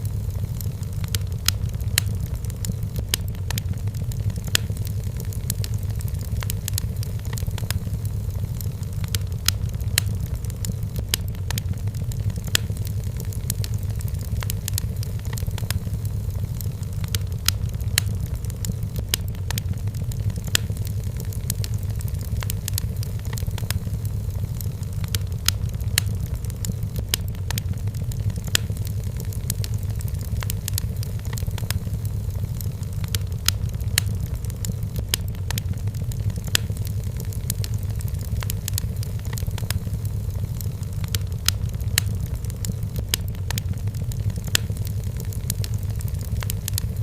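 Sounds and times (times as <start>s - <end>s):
firewood crackling and popping: 0.0s - 47.0s
low rumble of fire: 0.0s - 47.0s.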